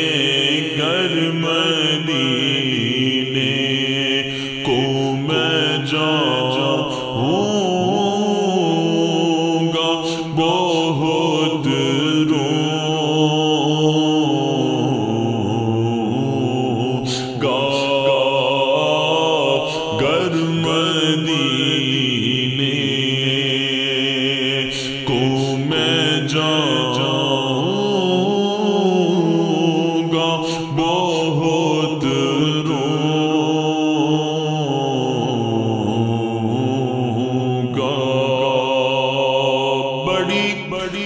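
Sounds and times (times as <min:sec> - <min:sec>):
wordless vocal chanting: 0:00.0 - 0:41.0.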